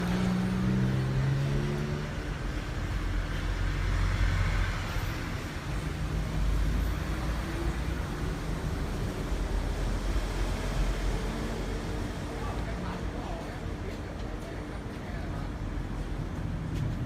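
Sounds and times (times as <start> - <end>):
engine rumbling steadily: 0.0 - 17.0.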